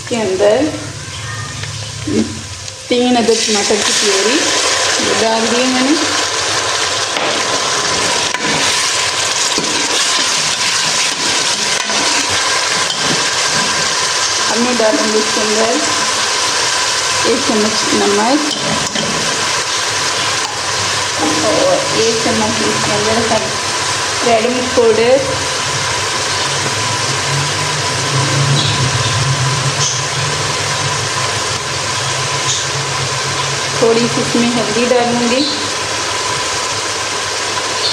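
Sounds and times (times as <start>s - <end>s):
puree sizzling in hot oil: 2.1s - 37.9s.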